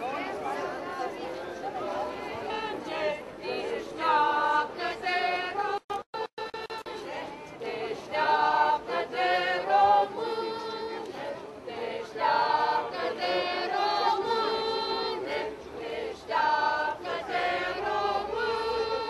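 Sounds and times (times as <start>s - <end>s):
crowd singing in unison: 0.2s - 19.0s.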